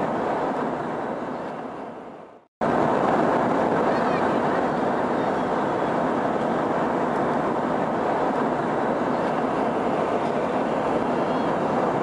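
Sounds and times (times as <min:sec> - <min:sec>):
airliner cabin noise: 0:00.0 - 0:12.0.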